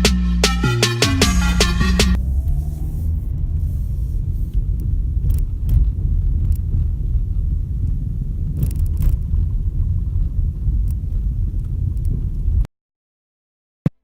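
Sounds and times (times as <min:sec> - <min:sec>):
road rumble: 0:00.0 - 0:12.7.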